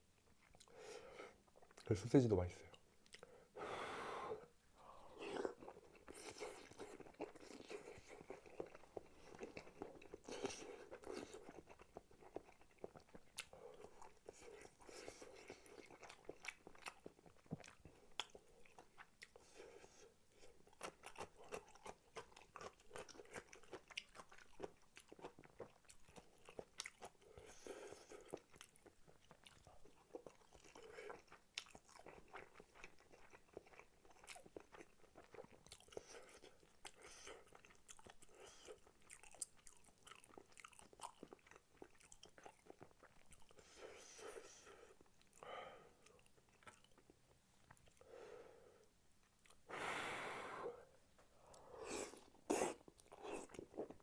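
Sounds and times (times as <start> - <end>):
wet chewing mouth noises: 5.1 - 48.0, 51.4 - 54.0.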